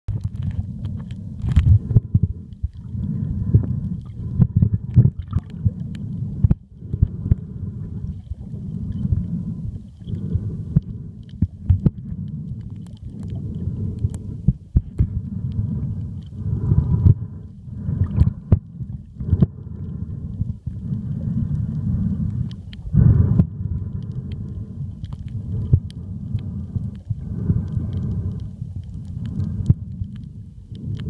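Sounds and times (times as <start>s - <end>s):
muffled underwater water rumble: 0.1s - 31.0s.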